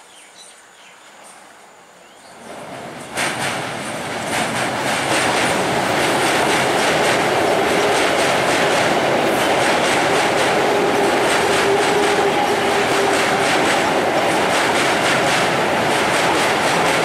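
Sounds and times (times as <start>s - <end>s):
train wheels clattering on bridge: 2.4s - 17.0s.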